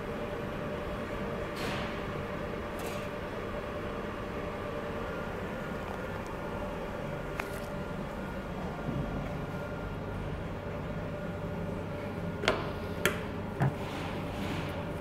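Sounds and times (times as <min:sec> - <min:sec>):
machine hum of pumps and fans: 0:00.0 - 0:15.0.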